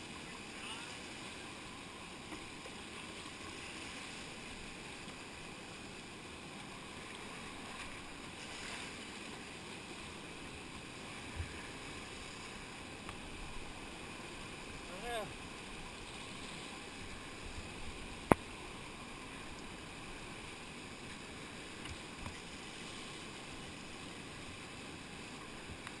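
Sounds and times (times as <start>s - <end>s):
whitewater rushing in a river rapid: 0.0s - 26.0s.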